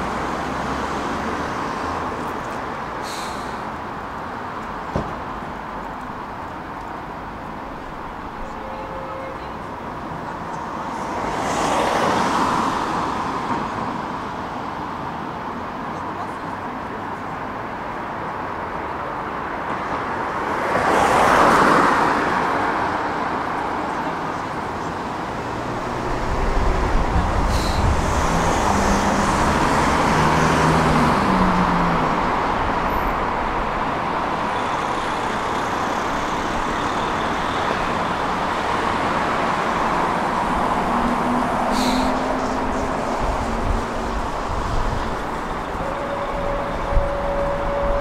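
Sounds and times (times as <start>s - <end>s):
tram running rumble: 0.0s - 21.1s, 21.8s - 48.0s.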